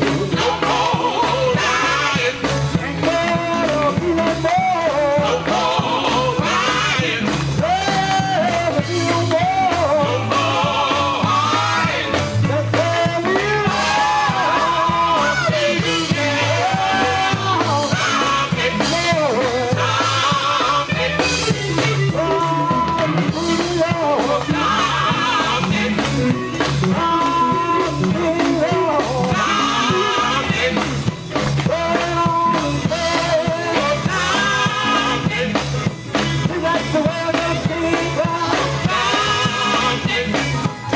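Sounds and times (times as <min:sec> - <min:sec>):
live gospel band music: 0:00.0 - 0:40.9.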